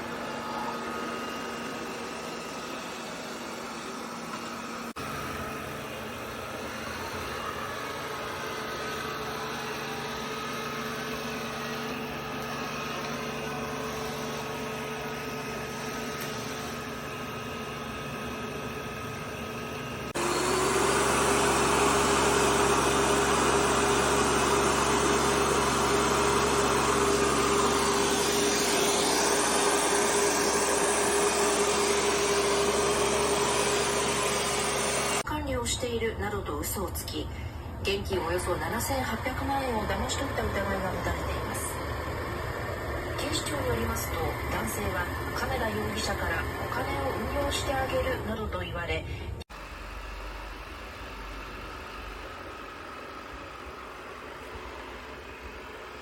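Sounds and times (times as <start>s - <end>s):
robot vacuum motor hum: 0.0s - 35.2s, 38.1s - 48.4s, 49.6s - 56.0s
loud motor whirring: 0.0s - 35.3s, 38.1s - 48.4s, 49.5s - 56.0s.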